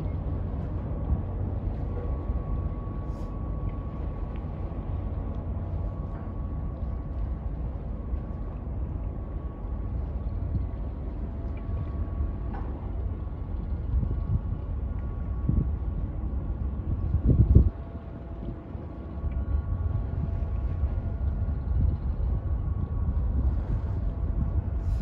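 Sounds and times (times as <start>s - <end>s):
faint steady hum: 0.0s - 25.0s
ship engines low rumble: 0.0s - 25.0s.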